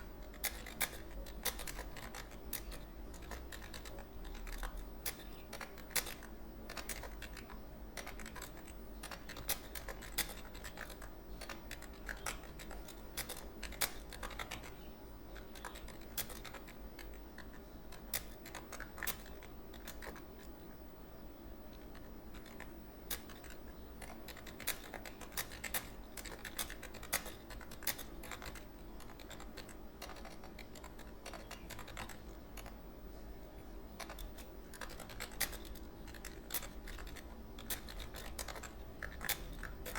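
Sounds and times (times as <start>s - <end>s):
keyboard typing clicks: 0.0s - 20.5s, 21.7s - 32.8s, 34.0s - 39.9s
steady low hum: 0.0s - 39.9s.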